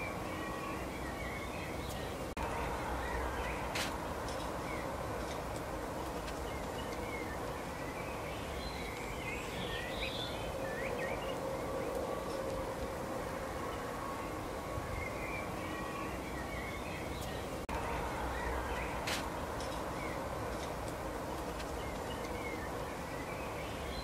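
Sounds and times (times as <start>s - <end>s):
low rumble and hiss: 0.0s - 24.0s
songbirds chirping: 0.0s - 24.0s.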